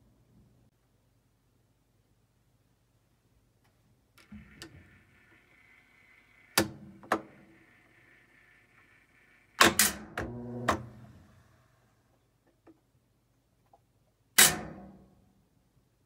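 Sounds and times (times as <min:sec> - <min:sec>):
faint steady whine: 0:00.0 - 0:13.5.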